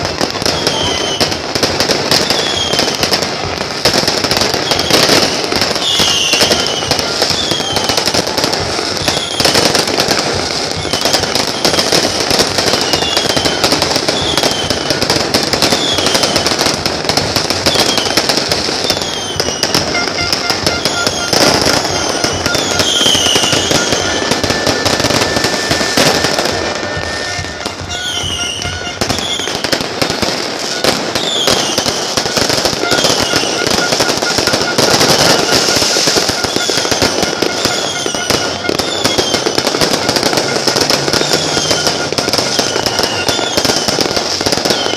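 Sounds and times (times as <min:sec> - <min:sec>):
falling firework whistles: 0:00.0 - 0:44.9
fireworks crackling bangs: 0:00.0 - 0:44.9.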